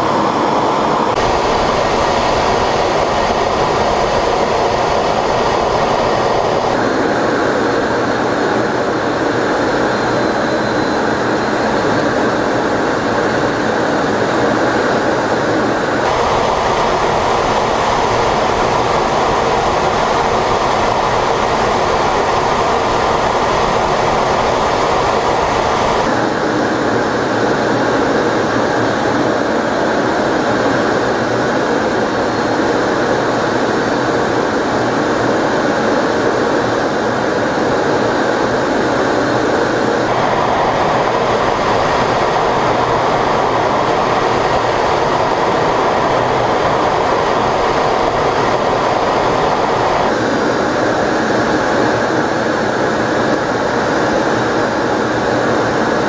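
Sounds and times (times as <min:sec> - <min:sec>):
jet cockpit rushing noise: 0:00.0 - 0:56.0.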